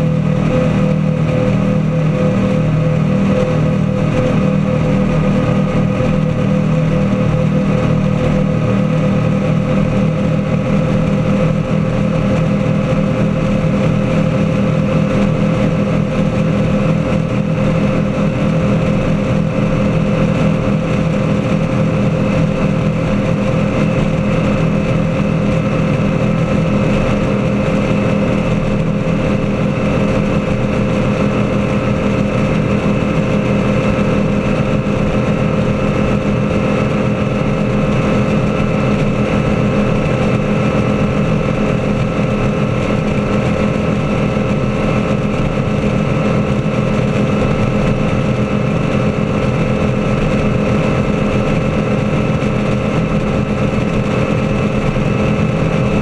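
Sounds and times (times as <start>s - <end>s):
powerboat engine drone: 0.0s - 56.0s.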